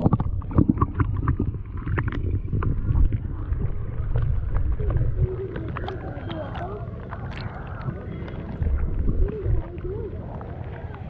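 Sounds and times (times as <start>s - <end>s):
water splashes: 0.0s - 11.0s
wind and water rumbling on microphone: 0.0s - 11.0s.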